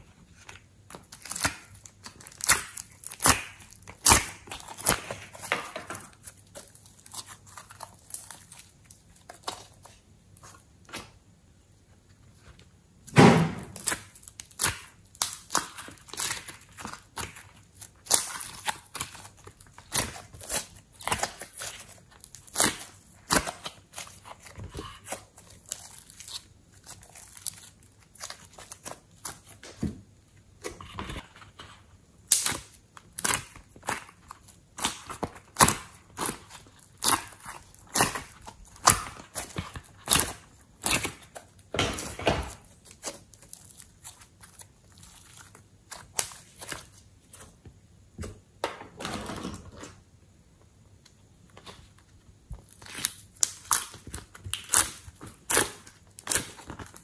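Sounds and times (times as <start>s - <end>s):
slime squelching: 0.0s - 11.2s, 12.4s - 47.6s, 51.6s - 57.0s.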